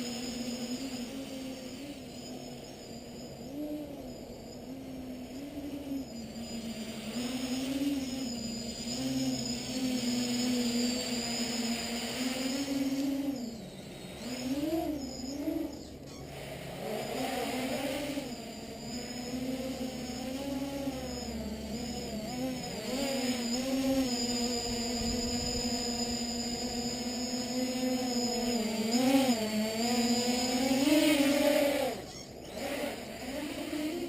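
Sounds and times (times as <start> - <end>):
quadcopter propellers buzzing: 0.0 - 34.0.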